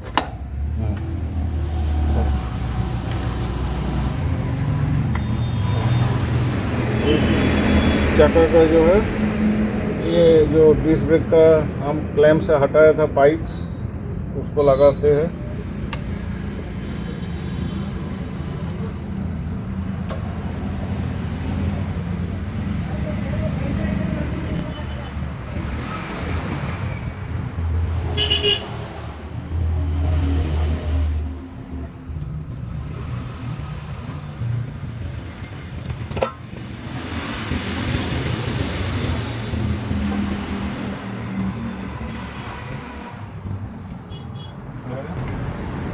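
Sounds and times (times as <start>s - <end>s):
vehicle engine rumbling: 0.0s - 45.9s.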